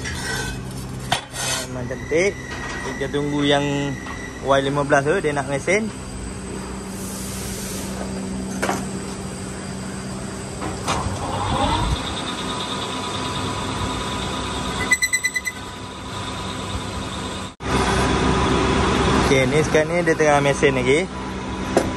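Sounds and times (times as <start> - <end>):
lathe humming and whining: 1.7 - 14.9, 15.6 - 21.9.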